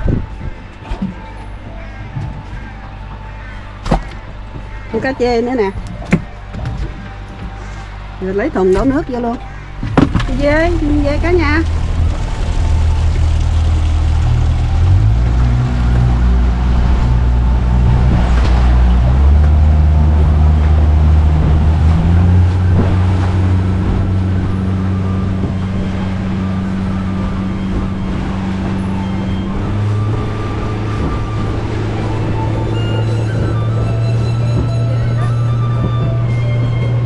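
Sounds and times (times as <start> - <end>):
motor engine running: 7.0 - 37.0.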